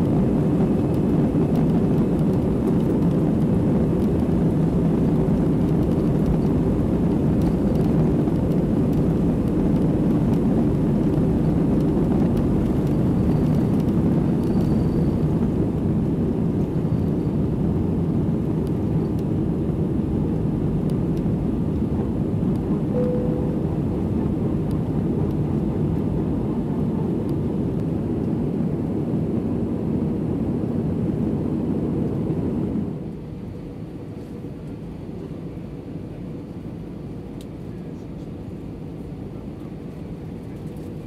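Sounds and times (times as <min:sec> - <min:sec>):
airplane cabin engine roar: 0:00.0 - 0:41.0.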